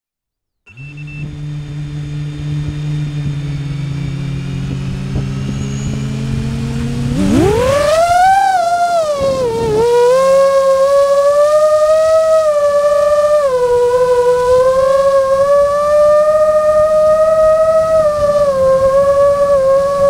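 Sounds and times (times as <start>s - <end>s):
quadcopter motors whining: 0.7s - 20.0s.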